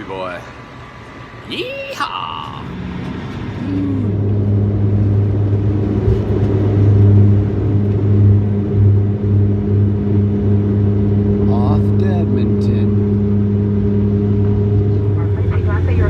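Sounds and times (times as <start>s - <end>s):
vehicle engine drone: 0.0s - 16.0s.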